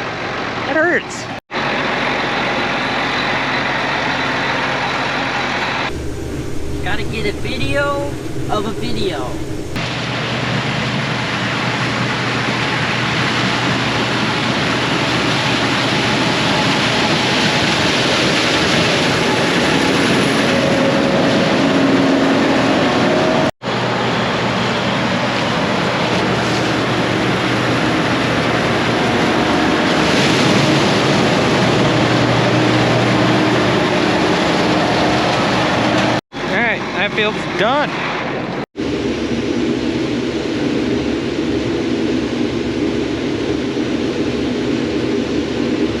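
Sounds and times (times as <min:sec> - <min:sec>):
heavy farm machinery roar: 0:00.0 - 0:46.0.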